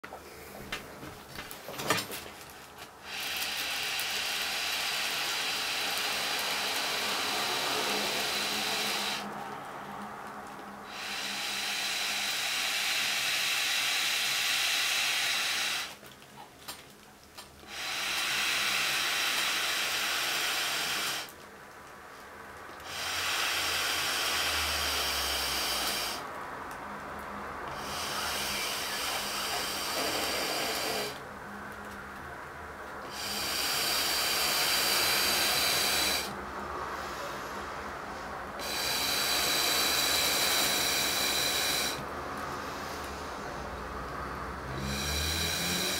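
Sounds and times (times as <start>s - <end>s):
air hissing into plastic bag: 0.2s - 16.0s, 17.6s - 21.4s, 22.8s - 26.3s, 27.6s - 31.3s, 33.0s - 45.9s.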